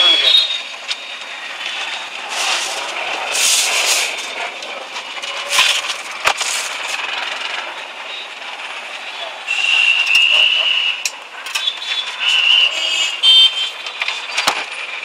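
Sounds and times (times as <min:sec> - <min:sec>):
passing vehicles hissing: 0:00.0 - 0:15.0.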